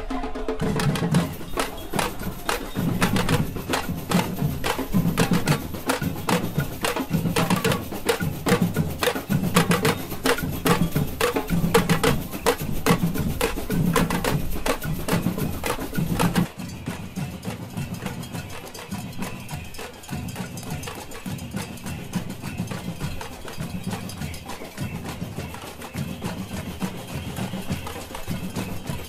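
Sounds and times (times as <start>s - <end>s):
drum beat: 0.0s - 29.0s
pots and pans struck with spoons: 1.3s - 29.0s.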